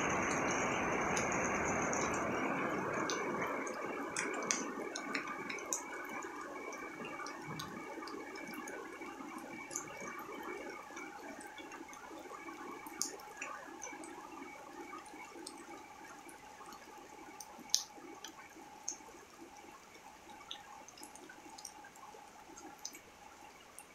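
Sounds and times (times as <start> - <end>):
rain on paving: 0.0 - 19.4
rain splashing into puddles: 0.0 - 23.9.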